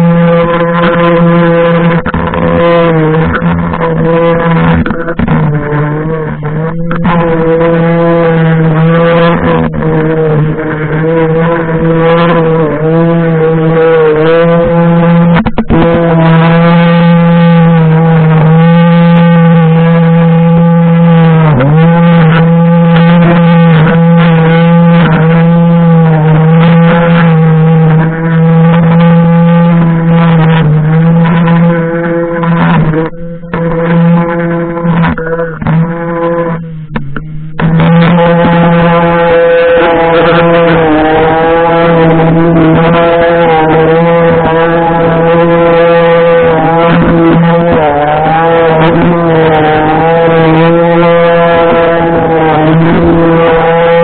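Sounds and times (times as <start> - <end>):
string trimmer cutting grass: 0.0 - 54.0.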